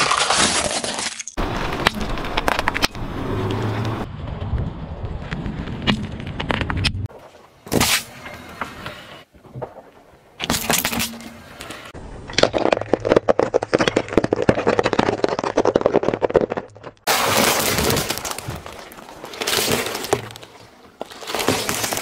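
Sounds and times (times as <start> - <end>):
hard candy cracking under tyre: 0.0 - 7.1, 10.4 - 22.0
tyre rolling over asphalt: 1.4 - 6.9, 9.4 - 22.0.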